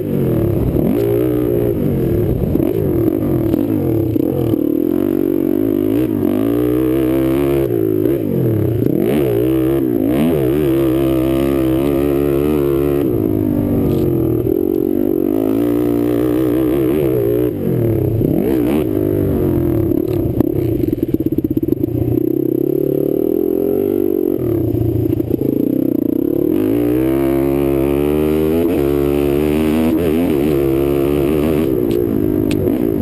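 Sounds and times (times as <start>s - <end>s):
quad engine revving: 0.0s - 33.0s.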